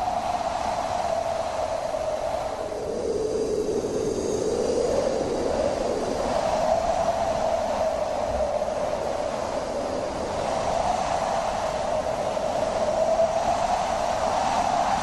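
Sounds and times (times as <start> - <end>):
wind howling: 0.0 - 15.0.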